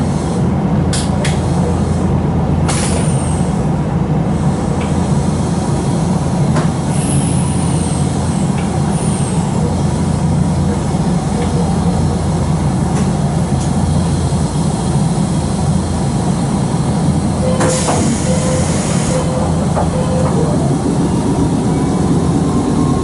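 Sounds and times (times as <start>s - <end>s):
train running gear rumble: 0.0s - 23.0s.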